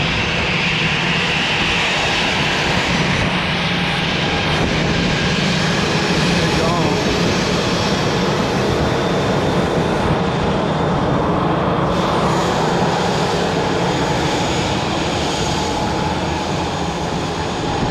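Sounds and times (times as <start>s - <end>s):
faint high engine whine: 0.0s - 17.9s
jet engines running: 0.0s - 17.9s.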